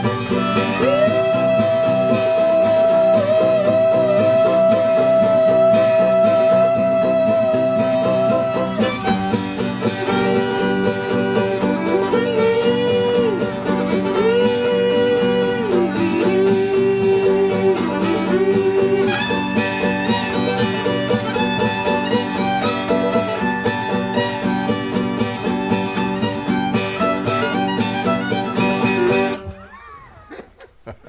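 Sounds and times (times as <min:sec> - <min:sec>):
fiddle sliding notes: 0:00.0 - 0:30.5
picked string accompaniment: 0:00.0 - 0:31.0.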